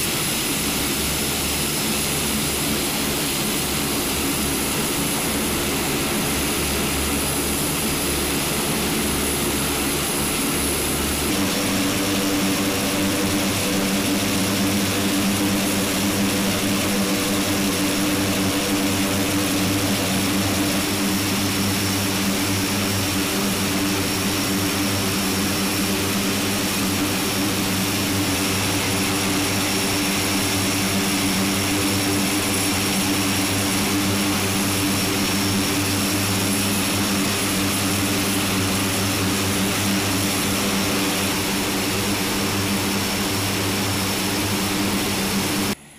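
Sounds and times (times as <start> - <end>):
high turbine whine: 0.0 - 45.9
turboprop engines droning: 0.0 - 45.9.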